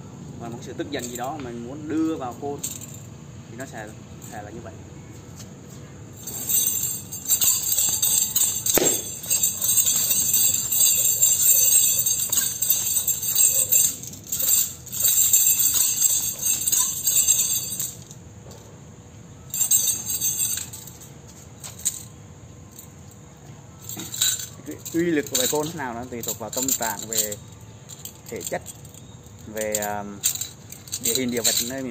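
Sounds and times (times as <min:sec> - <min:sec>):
metal chain jangling: 0:00.9 - 0:04.6, 0:06.2 - 0:18.7, 0:19.4 - 0:31.9.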